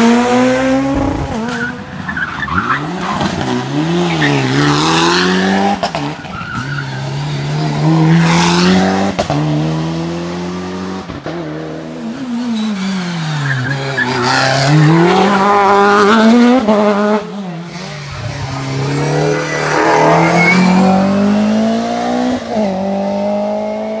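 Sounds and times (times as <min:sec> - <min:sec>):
rally cars passing revving: 0:00.0 - 0:24.0.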